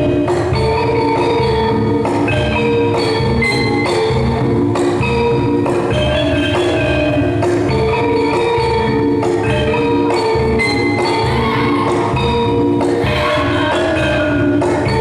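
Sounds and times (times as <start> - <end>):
metallophones ringing notes: 0.0 - 15.0.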